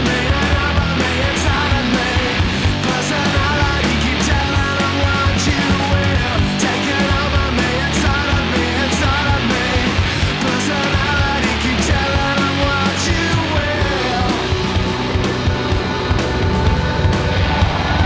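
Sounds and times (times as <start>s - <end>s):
rock music with distorted guitars: 0.0s - 18.0s.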